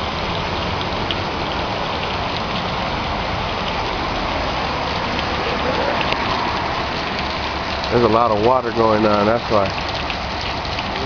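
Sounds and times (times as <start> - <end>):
heavy rain hissing: 0.0 - 11.0
raindrops ticking nearby: 0.0 - 11.0.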